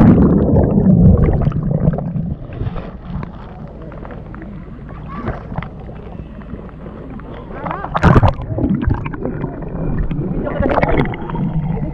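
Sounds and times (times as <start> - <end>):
rush of bubbles underwater: 0.0 - 11.9
water gurgling and lapping: 0.0 - 11.9.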